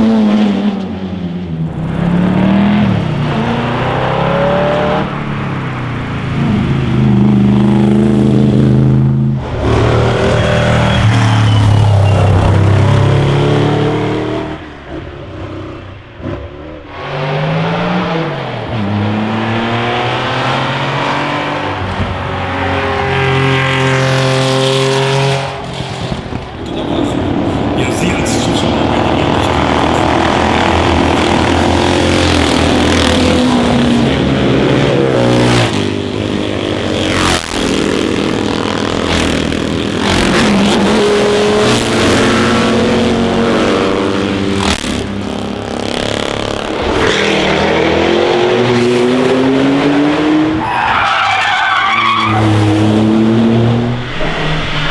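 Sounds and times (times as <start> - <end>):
racing car engines revving: 0.0 - 54.9.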